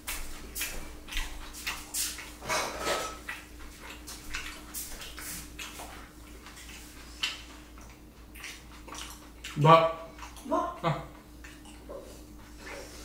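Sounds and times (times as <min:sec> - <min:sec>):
wet chewing and lip-smacking: 0:00.1 - 0:02.4, 0:03.2 - 0:12.9.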